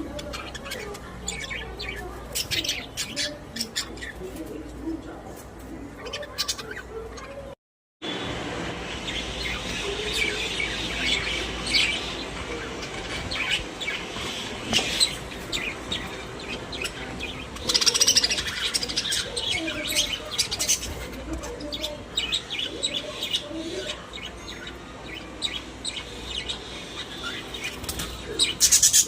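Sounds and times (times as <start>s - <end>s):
budgerigars chirping and warbling: 0.0s - 4.4s, 5.8s - 7.6s, 8.9s - 29.0s.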